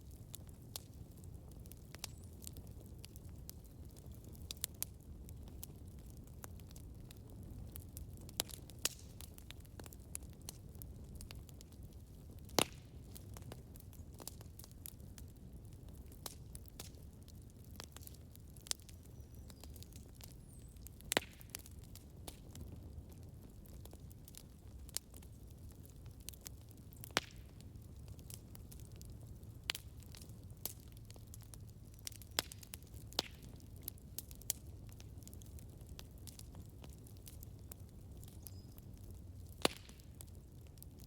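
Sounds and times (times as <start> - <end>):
burning wood crackling and popping: 0.0 - 41.0
low rumble of flames: 0.0 - 41.0.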